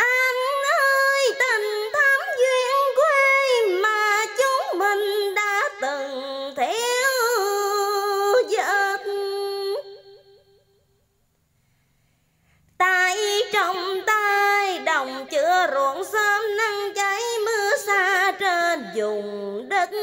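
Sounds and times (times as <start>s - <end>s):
woman singing: 0.0s - 10.2s, 12.8s - 20.0s.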